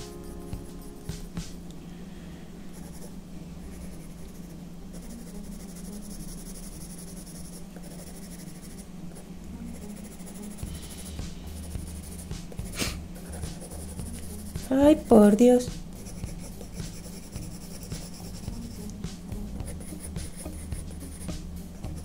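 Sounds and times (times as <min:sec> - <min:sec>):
pencil scratching on paper: 0:00.0 - 0:01.6, 0:02.7 - 0:15.3, 0:15.9 - 0:18.9, 0:19.6 - 0:22.0
low hum: 0:00.0 - 0:22.0.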